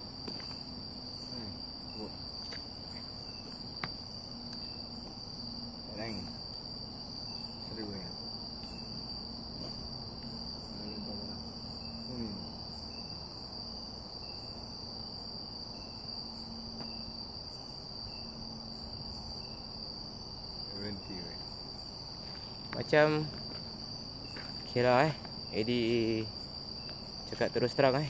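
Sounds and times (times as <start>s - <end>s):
crickets trilling: 0.0s - 28.0s.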